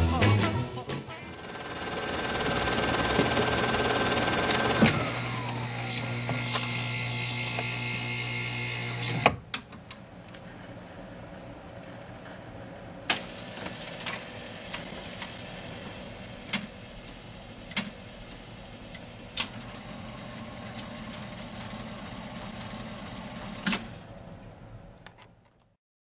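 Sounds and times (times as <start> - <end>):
jukebox mechanism whirring: 1.1 - 10.0, 13.1 - 25.4.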